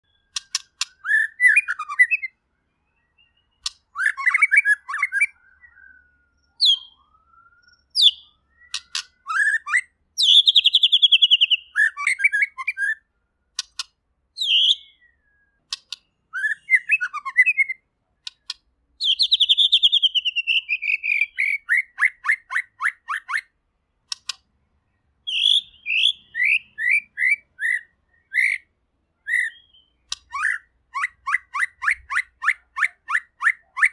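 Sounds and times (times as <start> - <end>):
bird singing varied song: 0.0 - 33.9.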